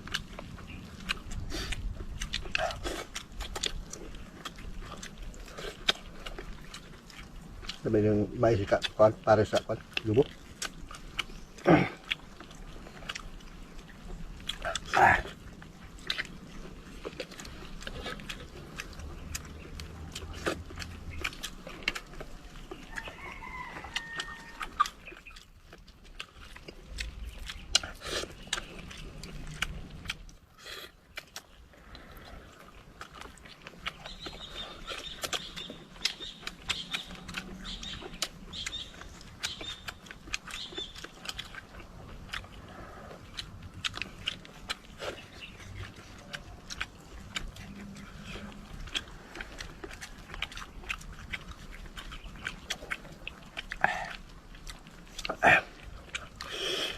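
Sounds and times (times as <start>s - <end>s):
people biting and chewing: 0.0s - 56.9s.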